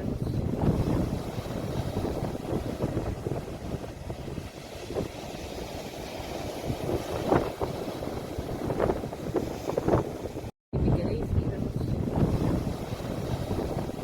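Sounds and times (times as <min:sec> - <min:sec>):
sea waves: 0:00.0 - 0:14.0
wind buffeting microphone: 0:00.0 - 0:14.0.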